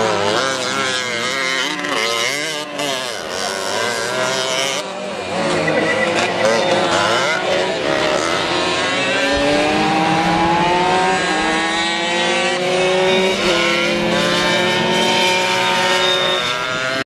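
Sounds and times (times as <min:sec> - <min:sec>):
two-stroke mopeds revving: 0:00.0 - 0:17.0.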